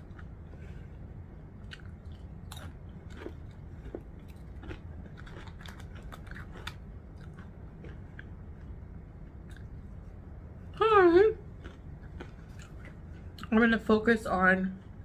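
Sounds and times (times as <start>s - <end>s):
person chewing crunchy chips: 0.0s - 0.8s, 1.6s - 10.0s, 10.7s - 13.6s
steady low hum: 0.0s - 15.0s.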